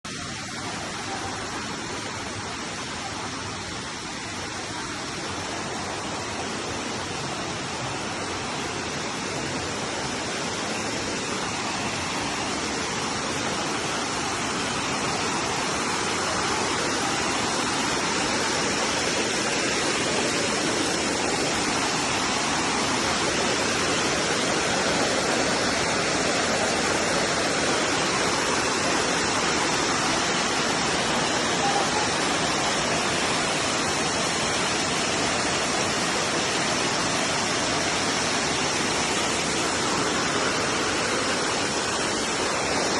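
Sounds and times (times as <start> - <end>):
waterfall roaring: 0.0 - 42.9.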